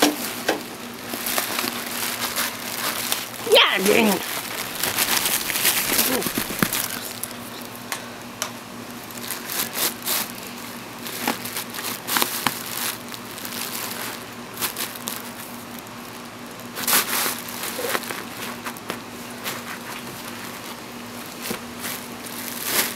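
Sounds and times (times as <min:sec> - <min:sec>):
faint steady hum: 0:00.0 - 0:22.9
bubble wrap crinkling: 0:00.9 - 0:07.9, 0:08.8 - 0:22.9.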